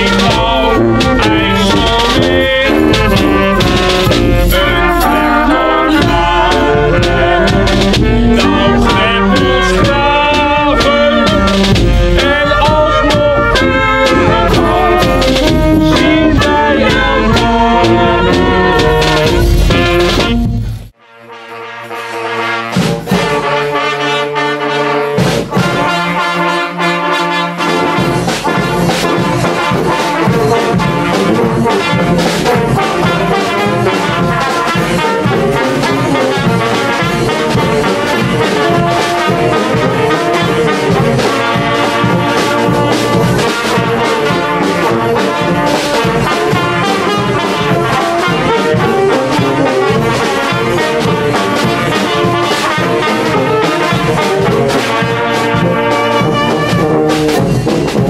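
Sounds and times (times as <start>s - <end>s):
drumbeat: 0.0s - 20.9s, 27.6s - 58.0s
street brass band playing: 0.0s - 58.0s.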